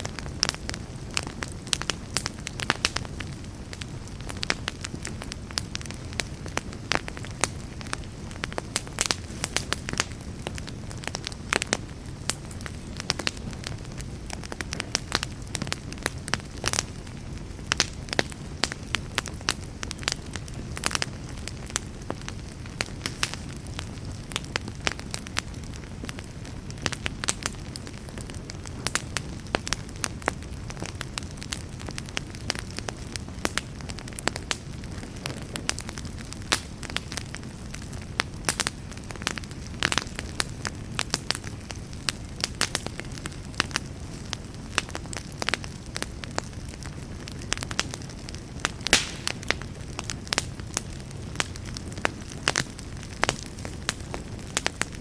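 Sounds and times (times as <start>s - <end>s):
campfire crackling and popping: 0.0s - 55.0s
low rumble of flame: 0.0s - 55.0s.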